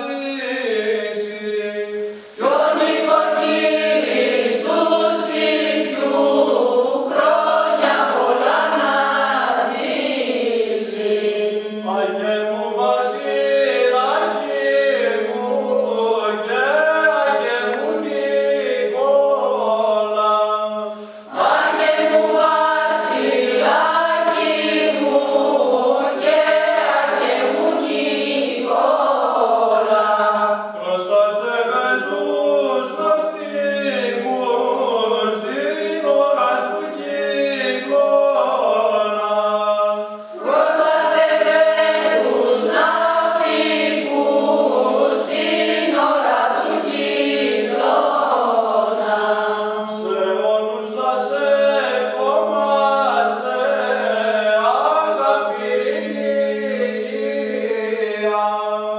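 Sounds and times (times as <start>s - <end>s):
mixed choir singing a cappella: 0.0s - 58.9s.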